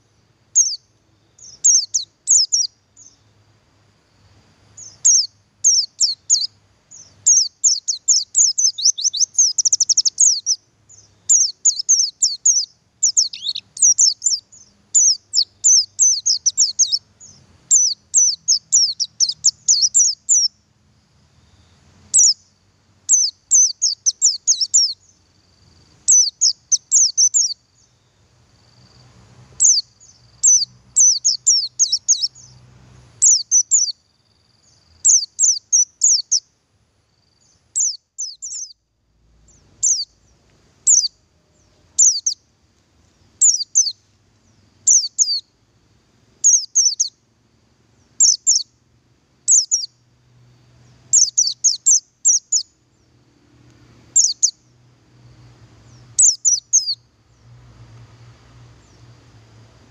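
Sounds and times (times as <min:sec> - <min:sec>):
bird chirping: 0:00.0 - 0:03.4, 0:04.8 - 0:20.6, 0:21.4 - 0:36.5, 0:37.1 - 0:38.8, 0:39.4 - 0:42.5, 0:43.4 - 0:45.6, 0:46.4 - 0:47.2, 0:48.0 - 0:48.8, 0:49.5 - 0:50.0, 0:50.8 - 0:53.2, 0:54.1 - 0:57.6, 0:58.7 - 0:59.2.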